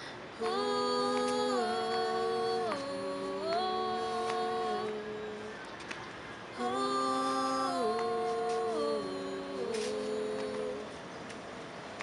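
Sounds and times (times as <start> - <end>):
female vocal group singing harmony: 0.0 - 5.7, 6.5 - 11.1.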